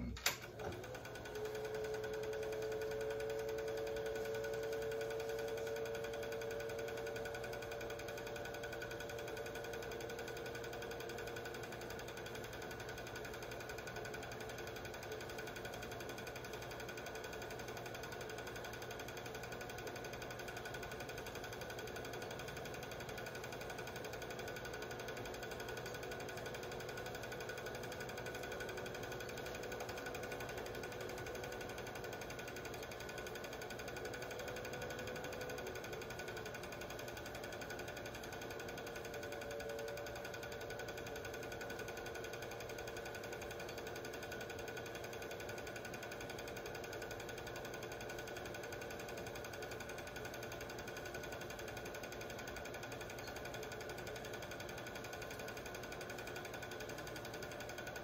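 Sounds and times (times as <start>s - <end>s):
faint motor whine: 0.0s - 44.7s, 45.4s - 58.0s
film projector clattering: 0.0s - 58.0s.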